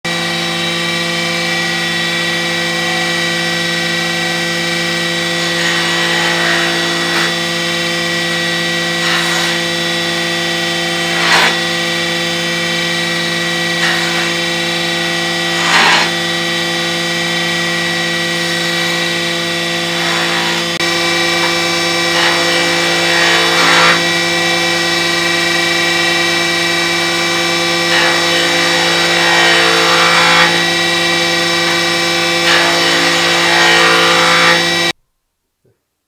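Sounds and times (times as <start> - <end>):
saw blade cutting wood: 0.1 - 35.0
table saw motor running: 0.1 - 35.0.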